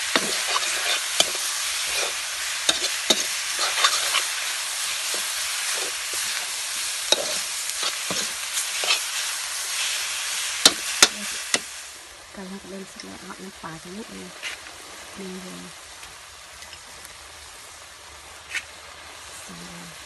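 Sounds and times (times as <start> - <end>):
chicken sizzling in oil: 0.0 - 20.0.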